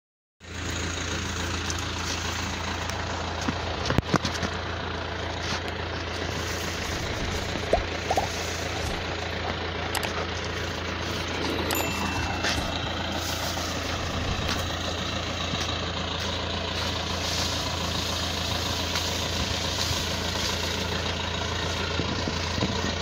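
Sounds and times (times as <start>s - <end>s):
vehicle engine idling: 0.4s - 23.0s.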